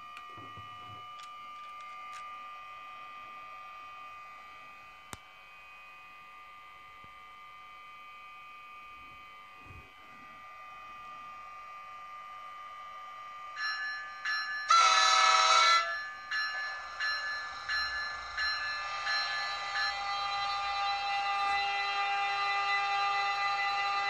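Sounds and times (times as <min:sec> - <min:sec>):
model locomotive electric hum: 0:00.0 - 0:24.0.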